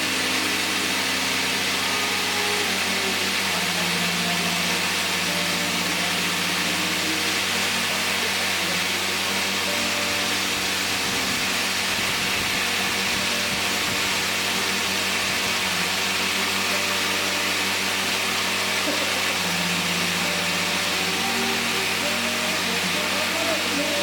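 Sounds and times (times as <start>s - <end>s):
air hissing: 0.0s - 24.0s
low motor hum: 0.0s - 24.0s.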